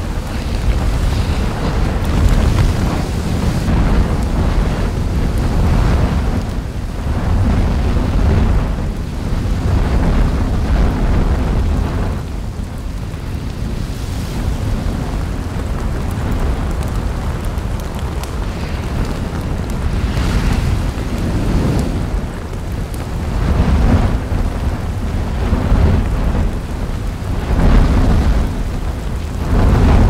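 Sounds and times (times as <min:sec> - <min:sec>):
deep volcanic rumble: 0:00.0 - 0:30.0
rushing crackling layer: 0:00.0 - 0:30.0.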